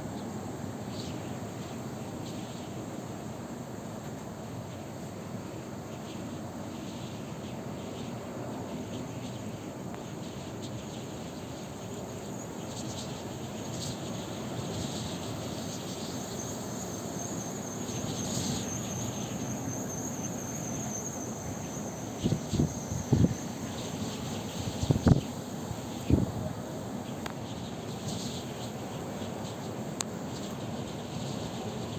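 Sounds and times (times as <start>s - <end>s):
faint high whine: 0.0s - 31.9s.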